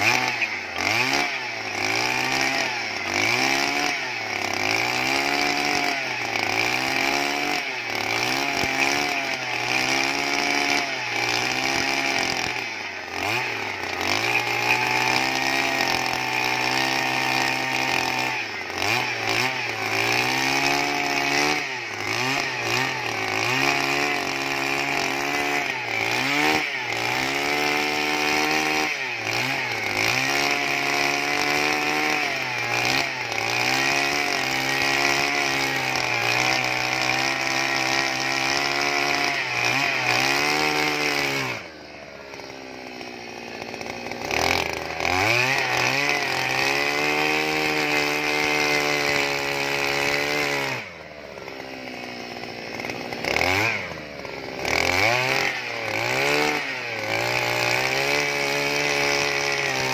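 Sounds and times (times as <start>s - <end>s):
earth auger engine drilling: 0.0s - 59.9s.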